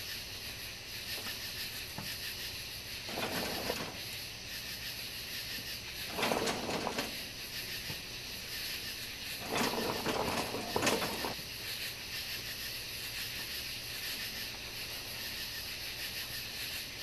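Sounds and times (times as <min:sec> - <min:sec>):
night insects chirring: 0:00.0 - 0:17.0.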